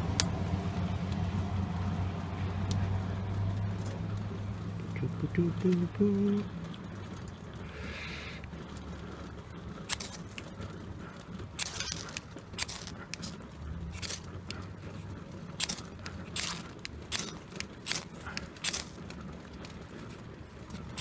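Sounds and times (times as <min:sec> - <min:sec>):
coffee percolator bubbling: 0:00.0 - 0:21.0.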